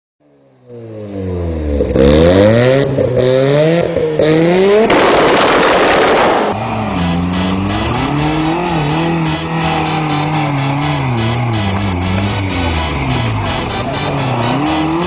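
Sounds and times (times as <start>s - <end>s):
car engine accelerating: 0.3s - 15.0s.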